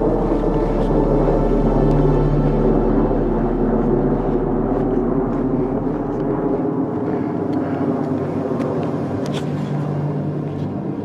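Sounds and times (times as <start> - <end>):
aircraft drone overhead: 0.0 - 11.0
low hum: 0.0 - 11.0.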